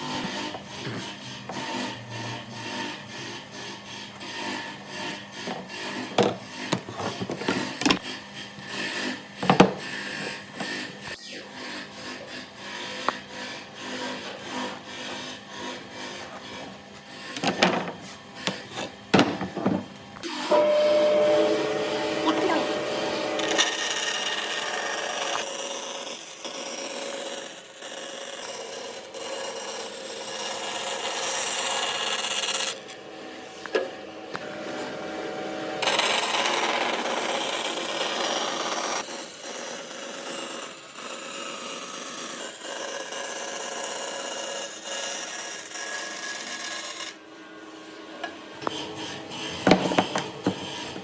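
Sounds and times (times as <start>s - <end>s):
power tool cutting wood: 0.0s - 19.0s, 19.6s - 47.2s, 47.8s - 51.0s.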